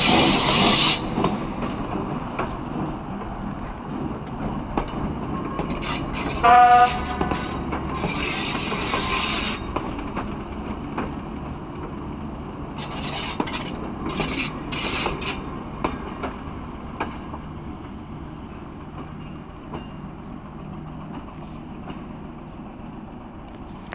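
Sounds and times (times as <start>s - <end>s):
train wheels clicking over rail joints: 0.0s - 22.2s
diesel locomotive engine drone: 0.0s - 23.9s.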